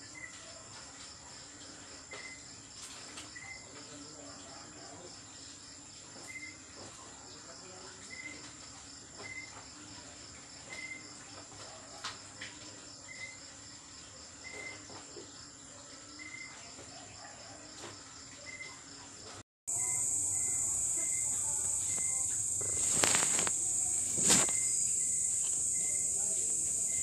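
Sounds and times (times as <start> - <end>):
crickets chirring in a fast trill: 0.0 - 27.0.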